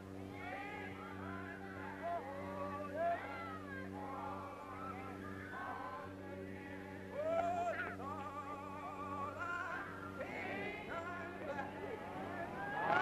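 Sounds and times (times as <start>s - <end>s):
low electrical hum: 0.0s - 13.0s
voices singing together: 0.3s - 13.0s.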